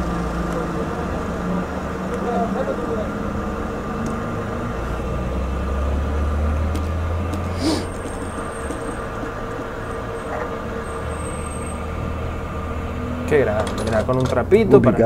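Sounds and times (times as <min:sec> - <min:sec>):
fuel pump hum: 0:00.0 - 0:15.0
low vehicle rumble: 0:00.0 - 0:15.0.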